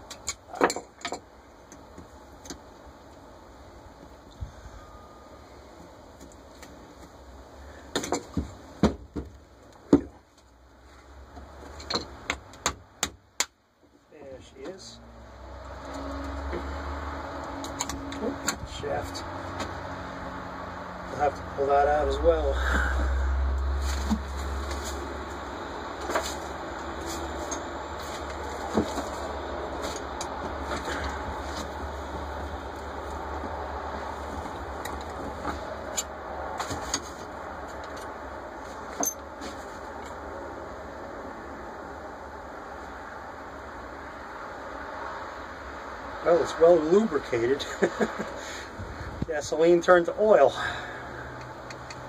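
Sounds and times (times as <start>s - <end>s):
steady background hiss: 0.0s - 51.8s.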